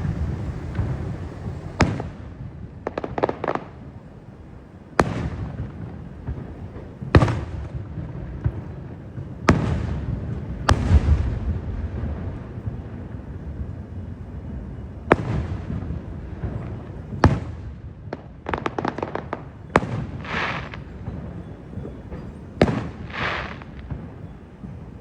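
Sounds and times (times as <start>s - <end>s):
fireworks booming: 0.0s - 25.0s
fireworks crackling: 0.0s - 25.0s
low rolling echo: 0.0s - 25.0s.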